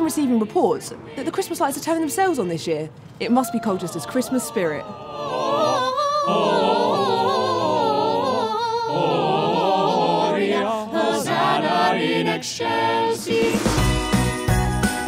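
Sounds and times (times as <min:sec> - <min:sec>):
choir singing a cappella: 0:00.0 - 0:02.6, 0:03.3 - 0:14.0.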